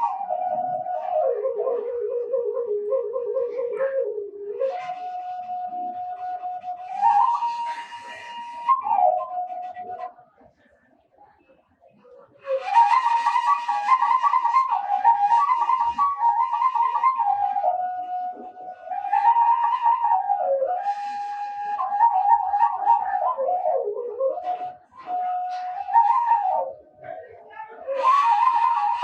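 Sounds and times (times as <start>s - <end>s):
bamboo flute melody: 0.0s - 10.2s, 12.4s - 29.0s.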